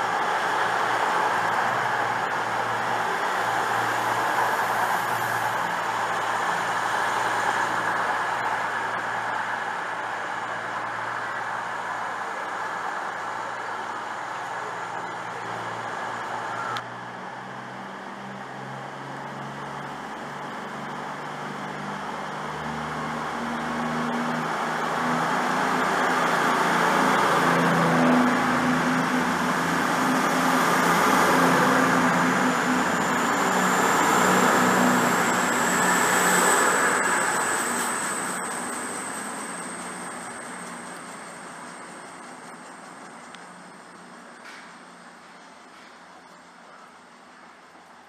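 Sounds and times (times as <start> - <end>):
diesel train passing: 0.0 - 48.0.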